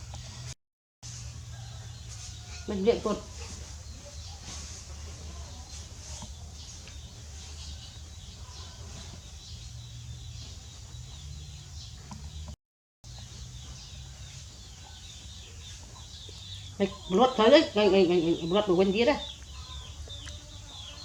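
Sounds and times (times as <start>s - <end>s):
faint birds chirping: 1.2s - 21.0s.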